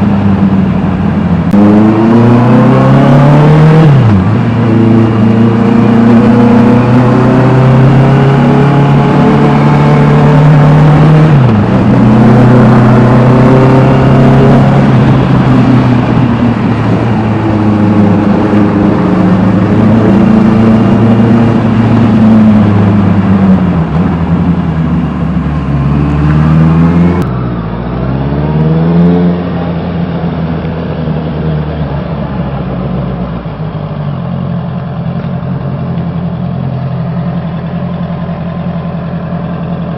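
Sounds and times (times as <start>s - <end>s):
motorcycle engine revving: 0.0s - 32.6s.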